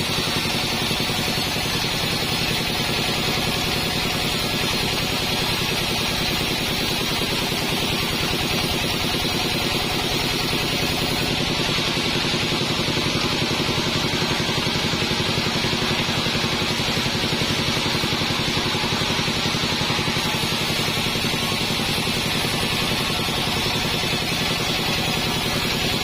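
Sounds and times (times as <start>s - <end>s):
band sawmill droning: 0.0s - 26.0s.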